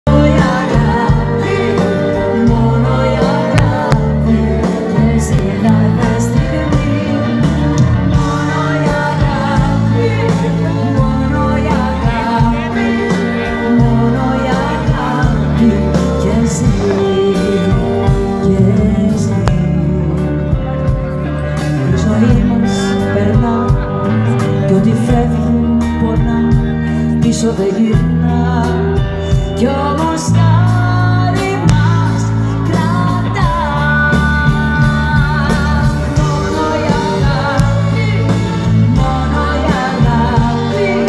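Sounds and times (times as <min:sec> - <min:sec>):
live band playing: 0:00.0 - 0:41.0
woman singing into microphone: 0:00.0 - 0:41.0.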